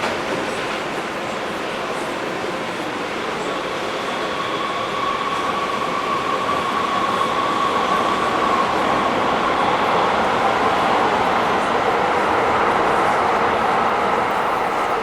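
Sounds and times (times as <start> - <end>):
subway train whine and rumble: 0.0 - 15.0.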